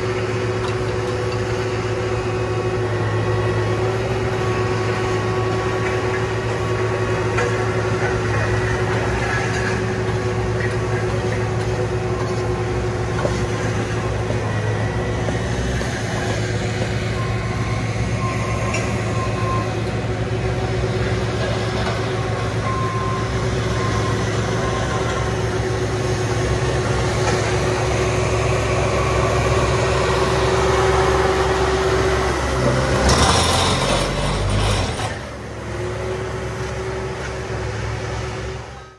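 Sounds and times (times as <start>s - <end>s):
paving machine engine humming: 0.0s - 38.9s.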